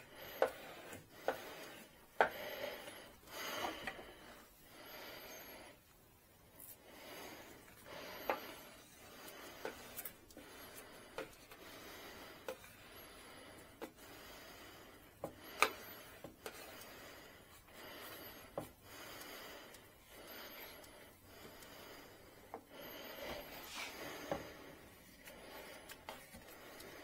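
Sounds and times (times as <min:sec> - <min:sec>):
slow close breathing: 0:00.0 - 0:27.0.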